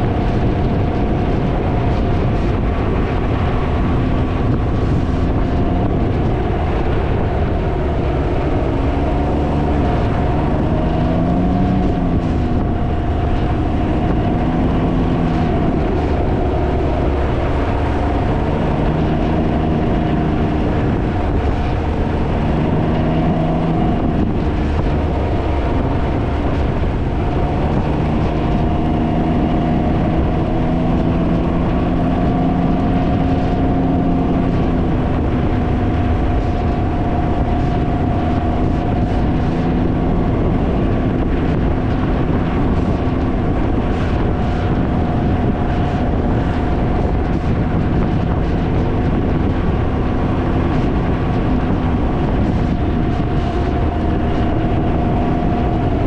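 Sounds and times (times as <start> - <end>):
three-wheeler engine: 0.0 - 56.0
wind buffeting microphone: 0.0 - 56.0.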